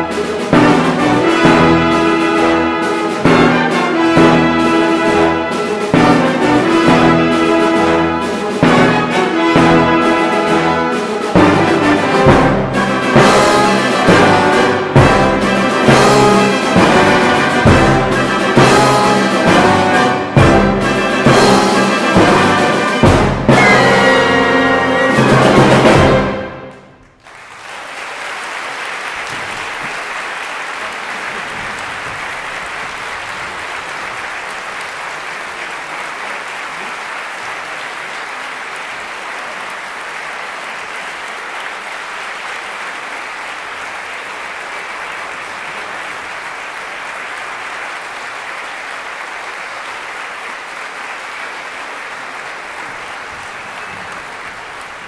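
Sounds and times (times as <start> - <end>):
audience applauding: 0.0 - 55.0.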